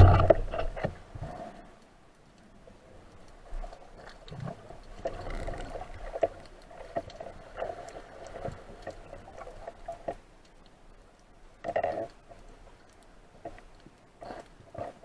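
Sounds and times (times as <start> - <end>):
underwater knocks and clicks: 0.0 - 1.3, 3.4 - 15.0
murky underwater hum: 0.0 - 15.0.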